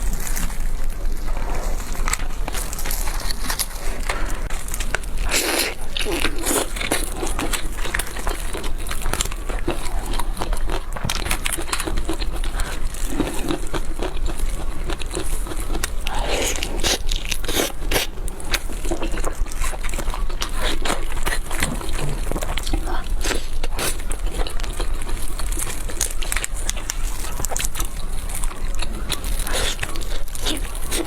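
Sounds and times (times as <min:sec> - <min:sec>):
chewing and tearing chicken: 0:00.0 - 0:31.0.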